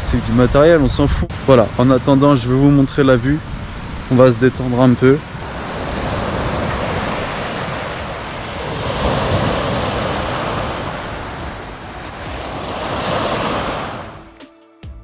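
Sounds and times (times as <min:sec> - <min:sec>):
wind rumble on microphone: 0:00.0 - 0:14.2
waves washing on pebbly shore: 0:01.4 - 0:14.2.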